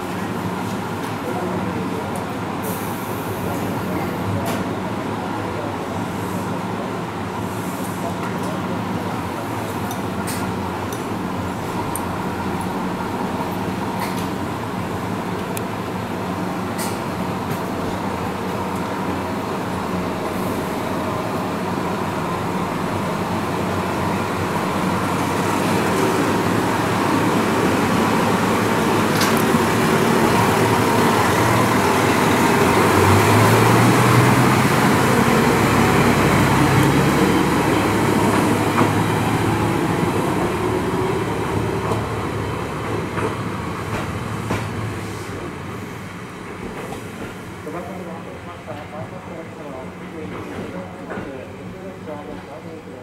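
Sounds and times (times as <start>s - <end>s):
diesel railcar engine passing: 0.0s - 53.0s.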